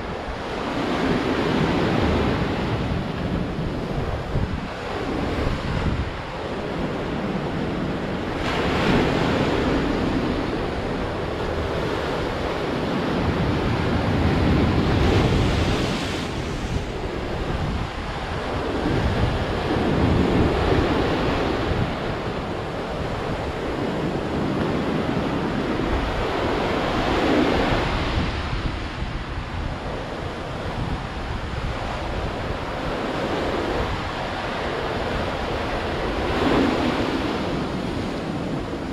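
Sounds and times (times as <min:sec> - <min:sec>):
sea waves breaking on shore: 0:00.0 - 0:38.9
wind rumbling on microphone: 0:00.0 - 0:38.9.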